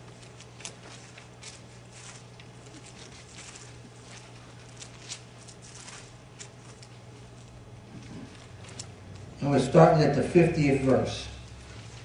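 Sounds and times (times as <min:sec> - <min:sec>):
book pages being turned: 0:00.0 - 0:09.3, 0:10.7 - 0:12.0
steady low hum: 0:00.0 - 0:12.0.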